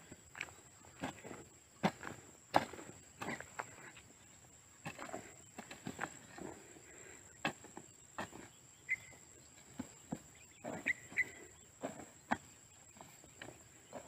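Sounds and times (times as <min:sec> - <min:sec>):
hoe chopping soil: 0:00.4 - 0:03.9, 0:04.8 - 0:08.6, 0:09.6 - 0:14.0.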